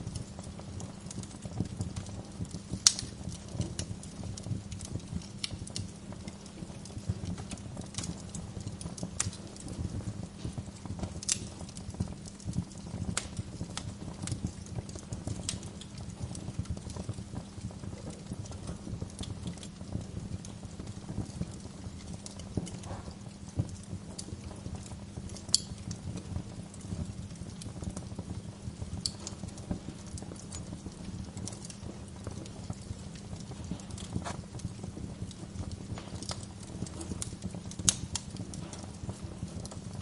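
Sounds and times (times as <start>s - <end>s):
sharp fire pops: 0.0s - 40.0s
wood fire crackling: 0.0s - 40.0s.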